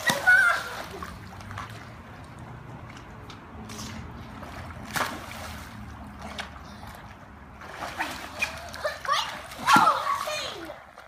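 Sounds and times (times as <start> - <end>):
pool water sloshing: 0.0 - 11.0
water splash: 0.0 - 11.0.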